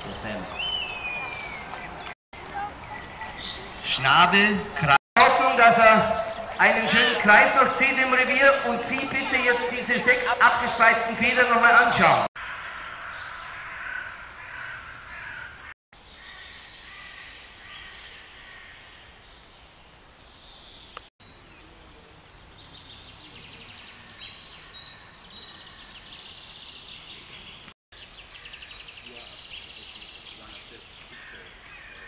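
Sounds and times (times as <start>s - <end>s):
birds calling and chirping: 0.0s - 32.0s.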